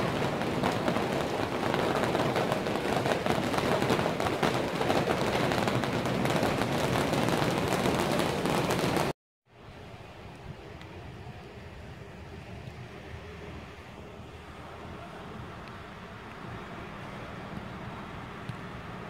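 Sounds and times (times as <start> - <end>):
rain pattering close: 0.0 - 9.1, 10.2 - 19.0.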